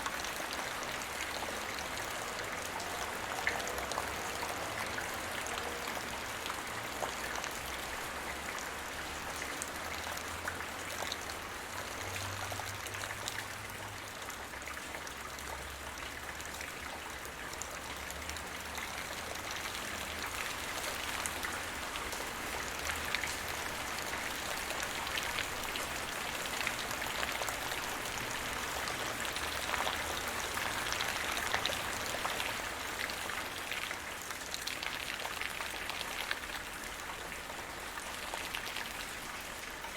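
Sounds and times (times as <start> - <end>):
light rain on the ground: 0.0 - 39.9.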